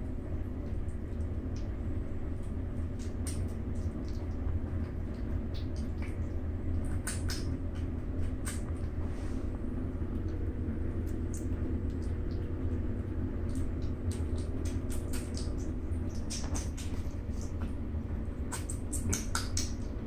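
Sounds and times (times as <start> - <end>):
kittens eating and lapping: 0.0 - 20.0
steady low hum: 0.0 - 20.0.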